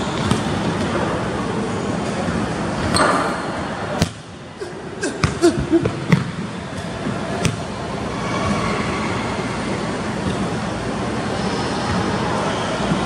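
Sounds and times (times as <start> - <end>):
room noise hum: 0.0 - 13.0.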